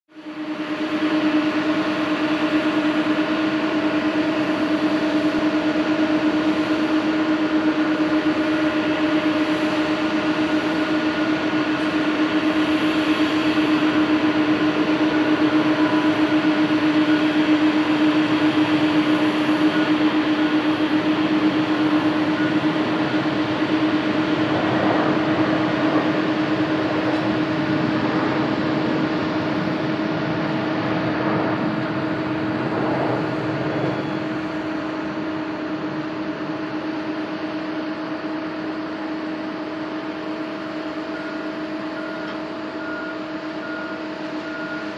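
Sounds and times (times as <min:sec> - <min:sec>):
jet engines droning: 0:00.1 - 0:44.9.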